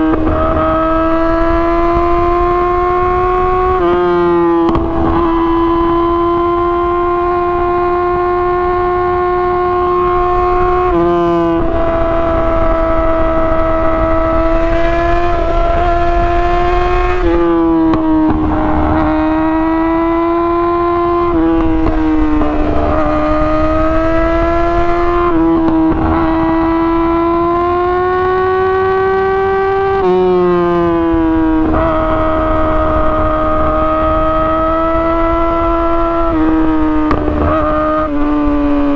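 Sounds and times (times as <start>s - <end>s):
motorcycle engine wailing at high revs: 0.0s - 38.9s.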